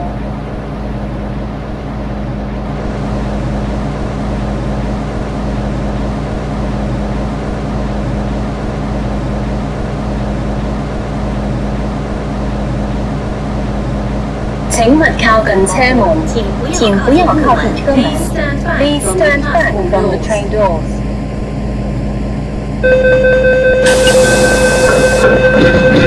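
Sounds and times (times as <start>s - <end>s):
electric train hum: 0.0s - 26.0s.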